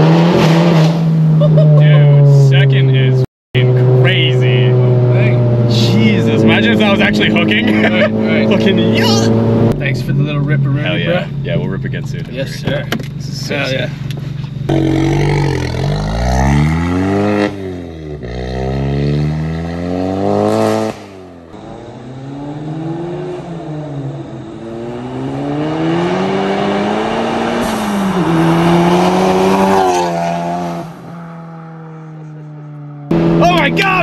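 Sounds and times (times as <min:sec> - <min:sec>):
car engine accelerating hard: 0:00.0 - 0:14.0, 0:14.6 - 0:34.0.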